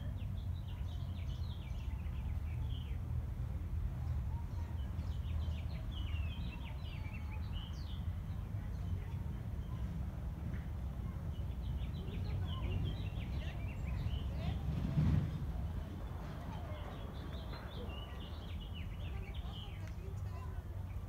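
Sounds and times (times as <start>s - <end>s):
small birds chirping: 0.0s - 3.1s, 4.0s - 9.9s, 11.0s - 14.7s, 15.8s - 21.0s.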